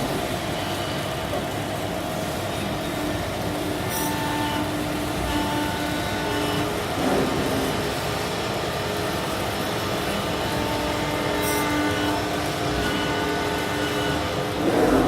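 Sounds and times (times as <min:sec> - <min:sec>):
machine hum with whining tones: 0:00.0 - 0:15.0.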